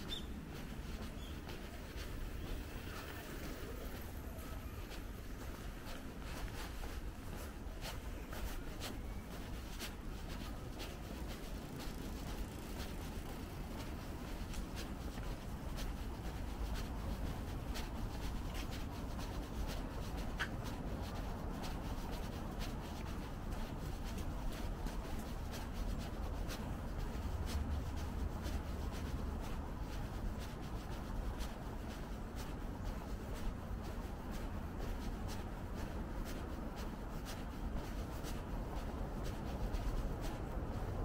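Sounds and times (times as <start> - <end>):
footsteps on paved path: 0.0 - 41.0.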